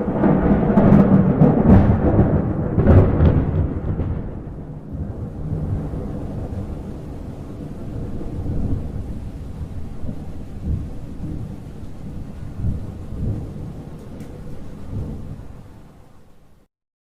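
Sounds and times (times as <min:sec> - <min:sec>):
rain falling: 0:00.0 - 0:16.7
thunder rumbling: 0:00.0 - 0:16.7.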